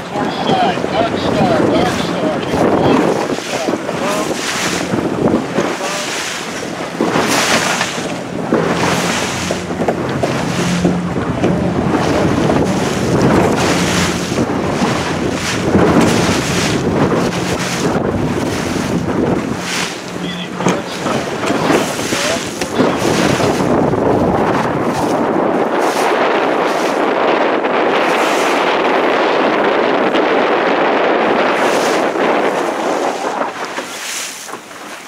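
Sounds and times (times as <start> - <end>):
water splashing past boat: 0.0 - 35.0
wind buffeting microphone: 0.0 - 35.0.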